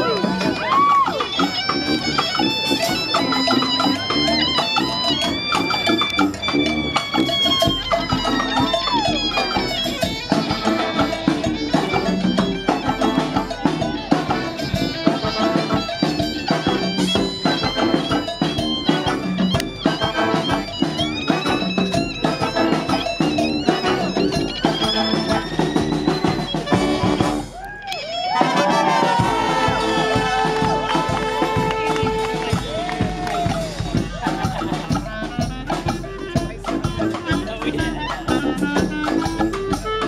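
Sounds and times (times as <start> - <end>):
steady drum beat: 0.0 - 27.6, 28.4 - 40.0
brass band playing: 0.0 - 40.0.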